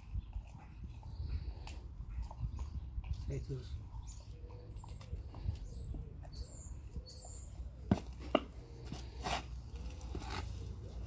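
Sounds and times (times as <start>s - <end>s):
small birds chirping: 0.0s - 9.2s
low rumble of wind: 0.0s - 11.0s.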